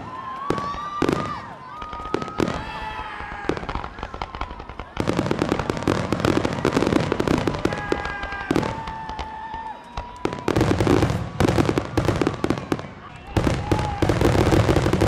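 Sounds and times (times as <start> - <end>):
fireworks bursting and crackling: 0.0 - 15.0
high whistling fireworks: 0.0 - 15.0.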